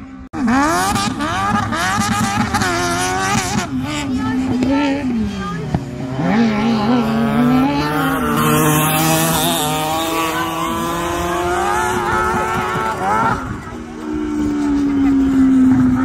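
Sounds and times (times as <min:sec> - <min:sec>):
go-kart engine revving: 0:00.0 - 0:16.0.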